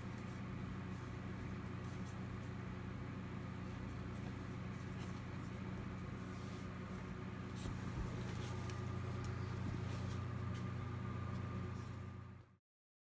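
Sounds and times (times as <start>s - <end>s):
low machinery hum: 0.0s - 12.6s.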